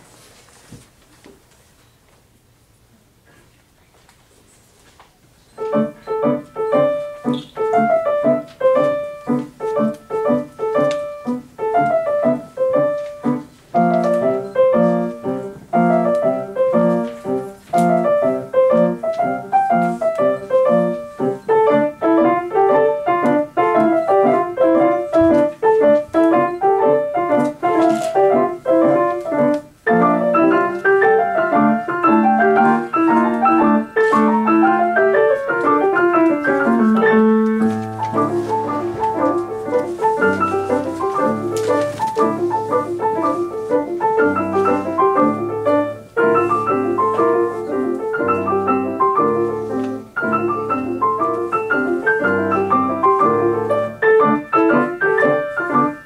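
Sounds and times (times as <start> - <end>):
two pianos playing classical piece: 5.4 - 56.0.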